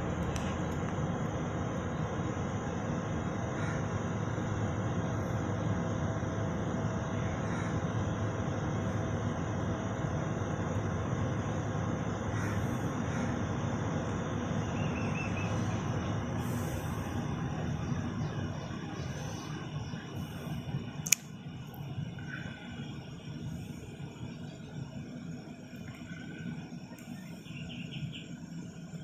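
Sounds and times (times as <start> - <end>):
distant jet engine roar: 0.0 - 29.0.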